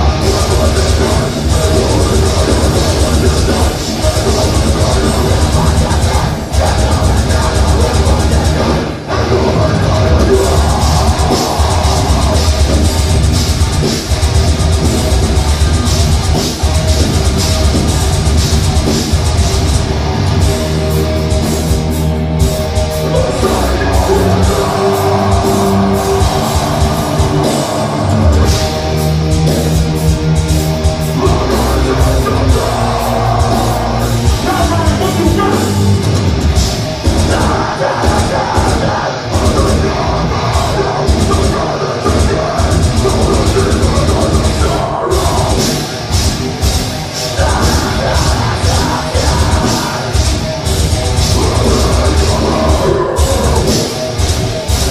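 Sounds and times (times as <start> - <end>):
bass guitar: 0.0 - 54.9
distorted electric guitars: 0.0 - 54.9
drum kit with cymbals: 0.0 - 54.9.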